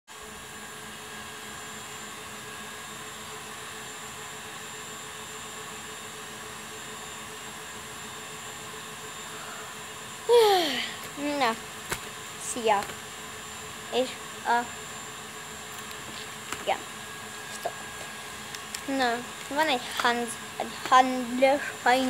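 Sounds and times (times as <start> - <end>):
faint steady hum: 0.2 - 22.0.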